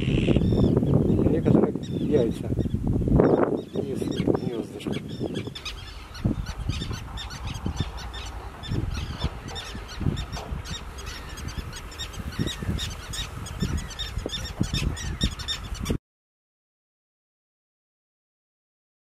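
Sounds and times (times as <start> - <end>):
low rumbles: 0.0 - 16.0
terns calling: 0.0 - 16.0.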